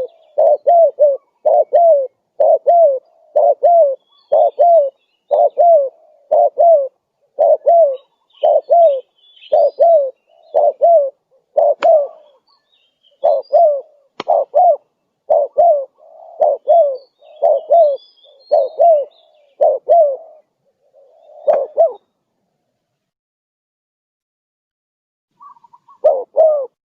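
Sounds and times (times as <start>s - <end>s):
dove cooing: 0.0s - 22.1s, 25.4s - 26.8s
small birds chirping: 0.0s - 22.2s, 25.4s - 26.3s.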